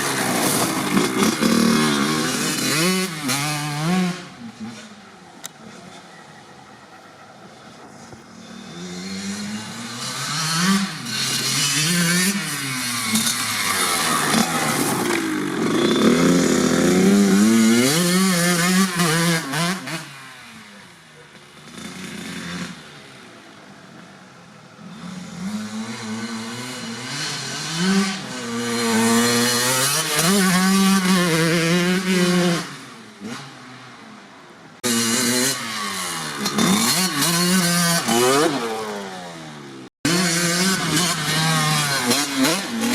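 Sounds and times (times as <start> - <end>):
dirt bike engine revving: 0.0 - 5.1, 8.3 - 20.7, 24.8 - 34.0, 34.8 - 42.9.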